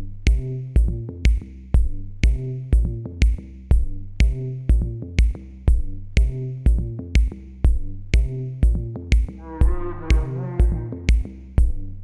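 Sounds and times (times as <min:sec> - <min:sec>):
electronic music with steady beat: 0:00.0 - 0:12.0
held bass line: 0:00.0 - 0:12.0.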